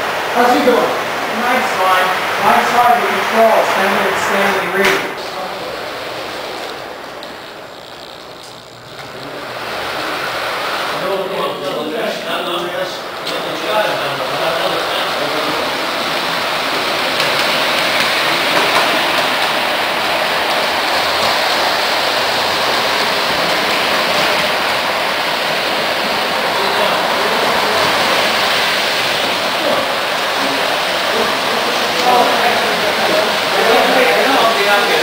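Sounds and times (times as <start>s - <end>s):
model train rolling on metal track: 0.0s - 35.0s.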